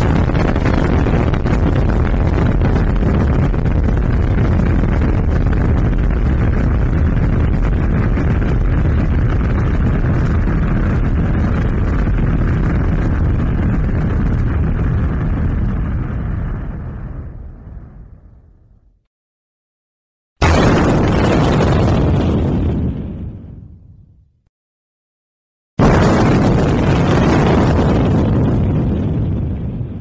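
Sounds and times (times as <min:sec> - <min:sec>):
deep rolling explosion rumble: 0:00.0 - 0:19.1, 0:20.4 - 0:24.4, 0:25.8 - 0:30.0.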